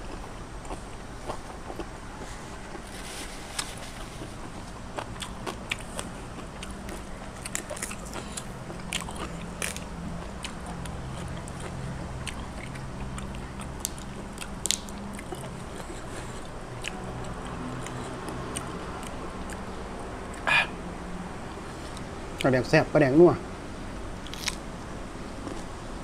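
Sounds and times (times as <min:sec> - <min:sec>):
person chewing crisp greens: 0:00.0 - 0:20.6, 0:24.2 - 0:24.7, 0:25.3 - 0:25.8
steady low hum: 0:00.0 - 0:26.0.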